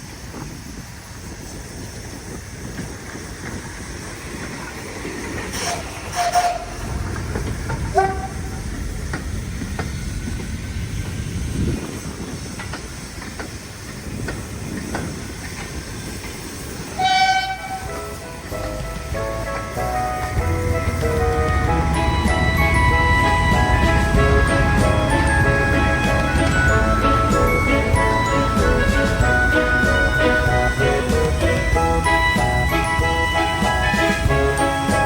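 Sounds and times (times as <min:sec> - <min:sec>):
train rumble with hissing: 0:00.0 - 0:35.0
wheels clattering on rails: 0:00.0 - 0:35.0.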